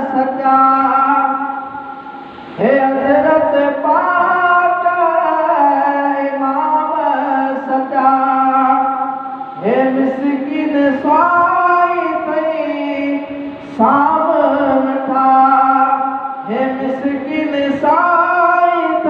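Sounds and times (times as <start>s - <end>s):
man singing into a microphone: 0.0s - 1.7s, 2.6s - 19.0s.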